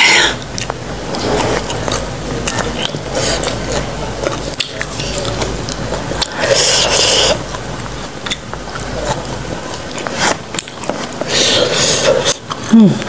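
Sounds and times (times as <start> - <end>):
chewing raw banana: 0.0 - 13.0
hissy crunchy noise: 0.0 - 13.0.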